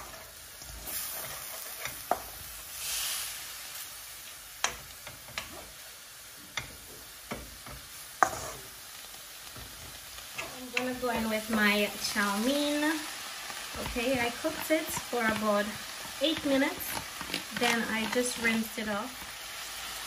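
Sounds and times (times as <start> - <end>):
vegetables sizzling in a wok: 0.0 - 20.0.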